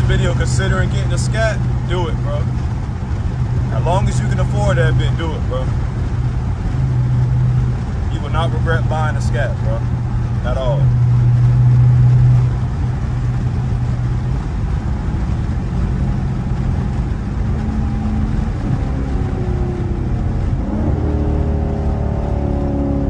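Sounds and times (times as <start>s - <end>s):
car engine drone from cabin: 0.0s - 23.0s.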